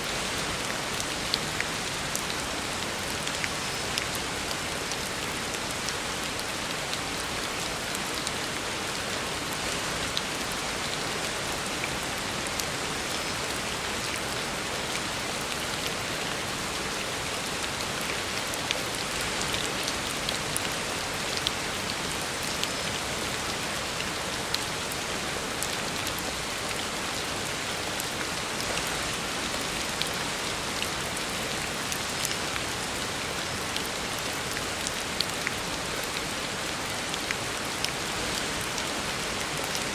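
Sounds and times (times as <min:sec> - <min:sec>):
heavy rain on road: 0:00.0 - 0:39.9.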